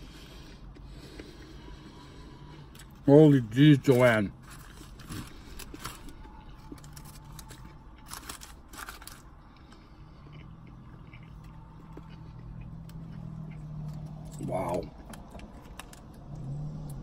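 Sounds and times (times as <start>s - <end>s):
man chewing food: 0.0s - 3.0s, 4.6s - 17.0s.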